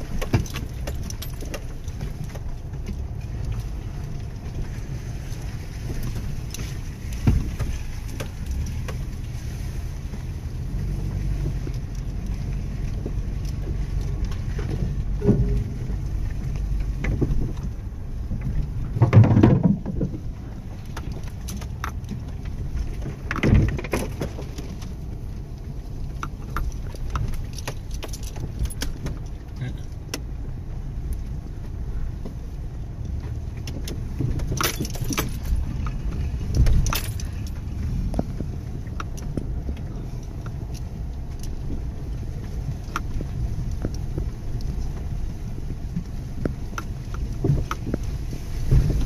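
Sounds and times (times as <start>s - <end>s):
car bumping through ruts: 0.0s - 49.0s
car engine low rumble: 0.0s - 49.0s.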